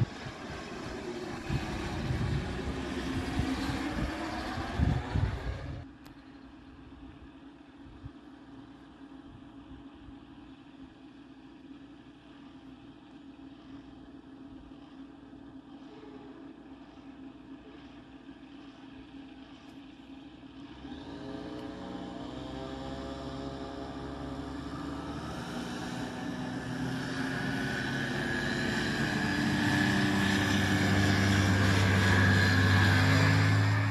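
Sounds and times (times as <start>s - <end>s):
propeller engine humming: 0.0s - 33.9s.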